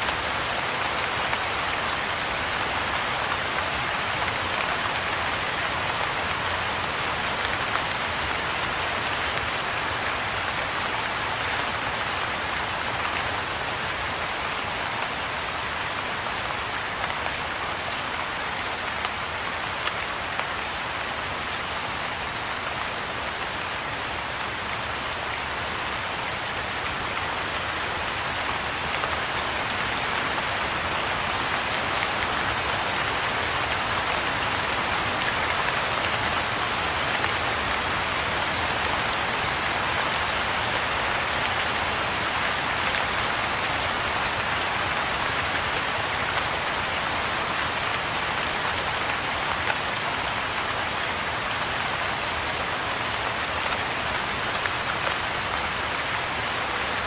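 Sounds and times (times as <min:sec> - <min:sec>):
rain falling on pond and grass: 0:00.0 - 0:57.0.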